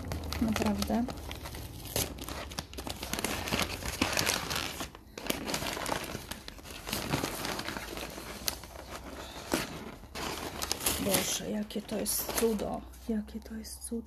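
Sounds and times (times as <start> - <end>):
paper wrapping crinkling: 0.0 - 13.0.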